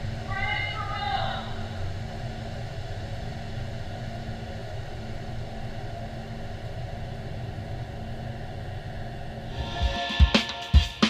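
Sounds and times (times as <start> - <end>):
faint constant hum: 0.0 - 11.0
steady low drone: 1.4 - 11.0.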